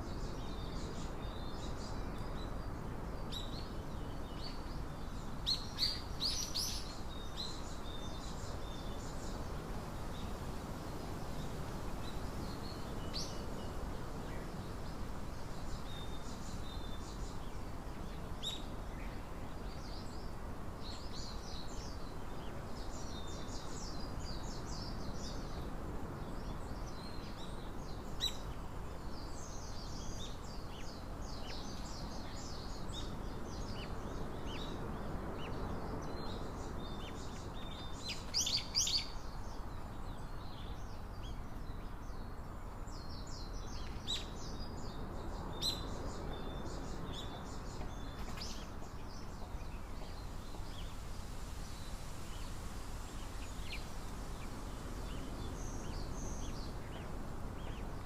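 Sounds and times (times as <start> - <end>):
low background hiss: 0.0 - 58.0
small birds chirping: 0.0 - 58.0.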